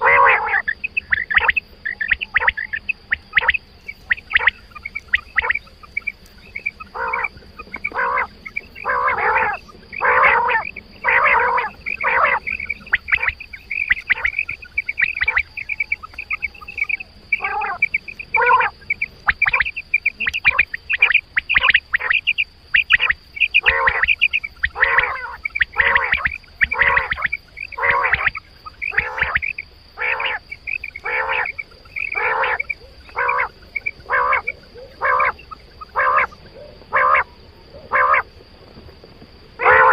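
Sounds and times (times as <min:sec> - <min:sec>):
quail calls: 0:00.0 - 0:38.3, 0:39.6 - 0:39.9.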